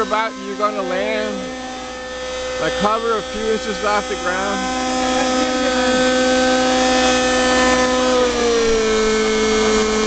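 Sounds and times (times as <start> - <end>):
model helicopter whine: 0.0 - 10.0.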